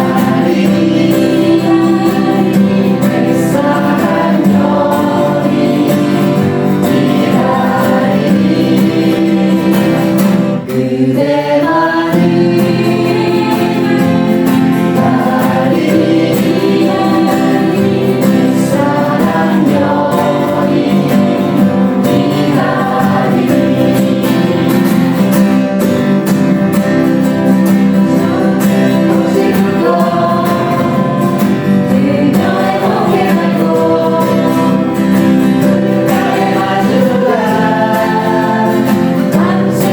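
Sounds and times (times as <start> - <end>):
group of voices singing: 0.0 - 39.9
instrumental accompaniment: 0.0 - 39.9.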